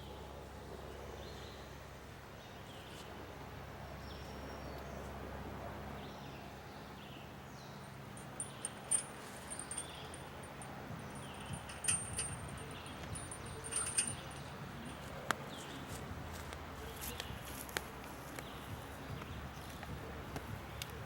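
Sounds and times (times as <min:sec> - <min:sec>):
faint low hum: 0:00.0 - 0:21.0
songbirds chirping: 0:00.0 - 0:21.0.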